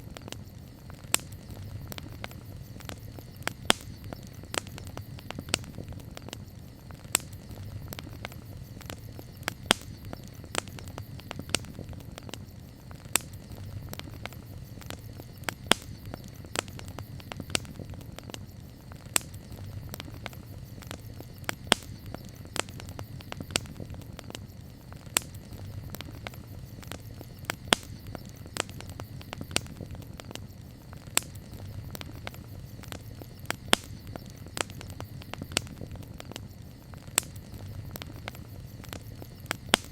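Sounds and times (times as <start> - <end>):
campfire crackling: 0.0 - 39.9
fire popping: 0.0 - 39.9.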